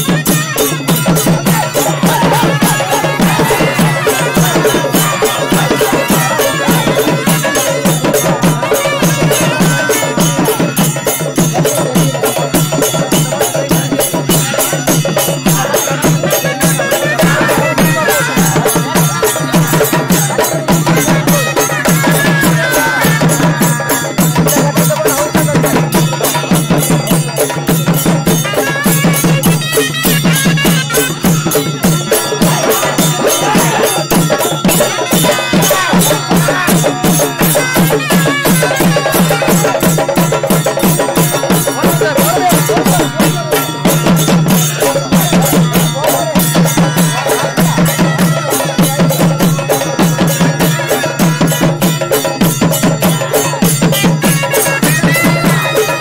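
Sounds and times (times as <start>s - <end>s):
fast steady drumming: 0.0s - 56.0s.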